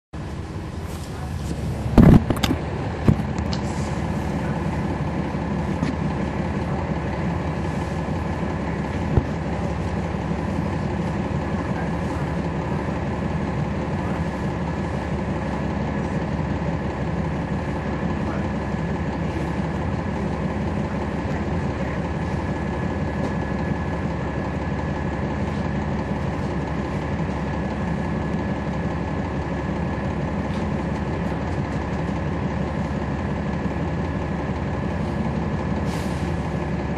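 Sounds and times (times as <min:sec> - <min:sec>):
bus diesel engine humming: 0:00.2 - 0:36.9.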